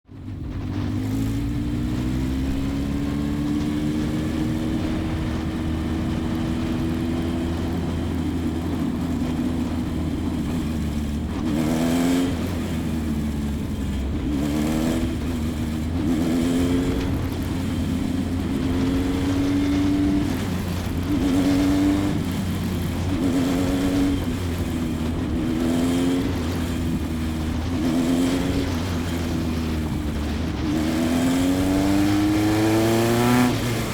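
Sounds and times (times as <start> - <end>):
race car engine revving: 0.1 - 33.9.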